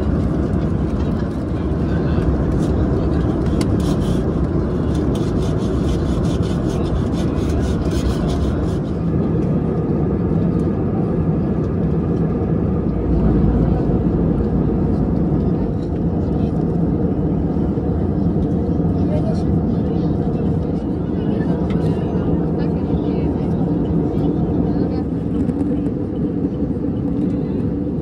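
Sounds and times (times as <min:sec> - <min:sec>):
airliner cabin roar: 0:00.0 - 0:28.0.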